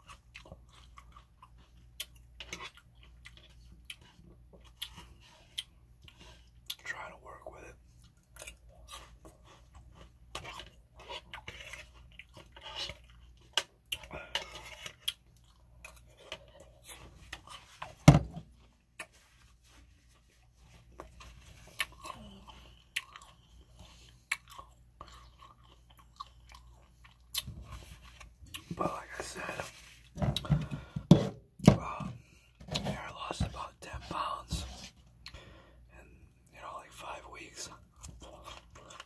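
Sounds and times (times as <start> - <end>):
chewing soft food: 0.0 - 6.9, 7.7 - 31.0, 35.0 - 39.0.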